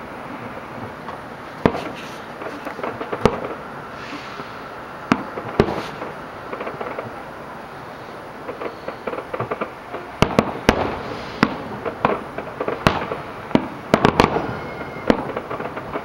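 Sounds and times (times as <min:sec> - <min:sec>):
small firework crackling: 0:00.1 - 0:16.0
firework shells bursting: 0:00.4 - 0:16.0.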